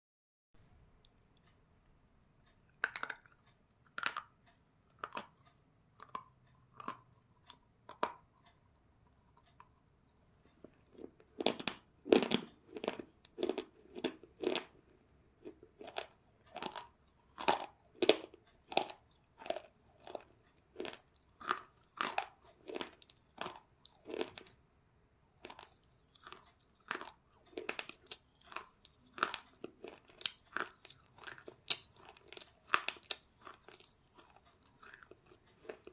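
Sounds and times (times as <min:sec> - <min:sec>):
person chewing crunchy food: 0:02.7 - 0:09.9, 0:10.6 - 0:35.9.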